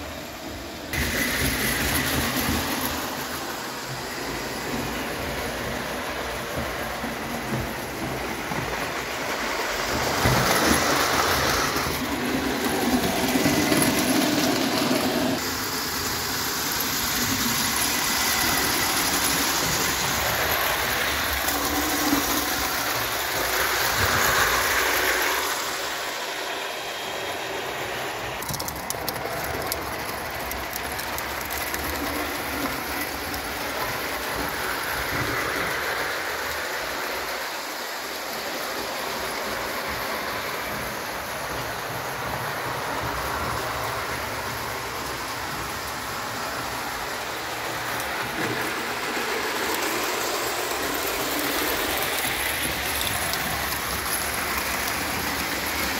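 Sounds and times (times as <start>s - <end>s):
model train wheels clattering: 0.9s - 42.4s, 44.8s - 55.9s.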